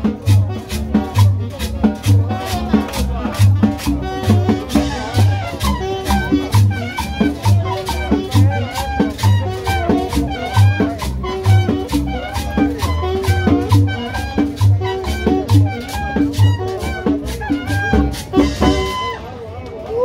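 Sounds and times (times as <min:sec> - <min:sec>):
merengue dance music: 0:00.0 - 0:19.3.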